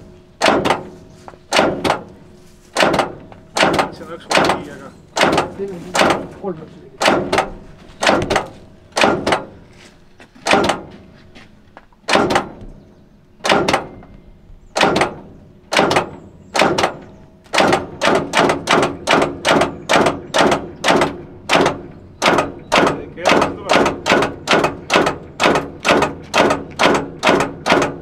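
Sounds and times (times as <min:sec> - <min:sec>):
sharp metallic engine knocks: 0:00.0 - 0:09.7, 0:10.4 - 0:11.2, 0:11.9 - 0:28.0.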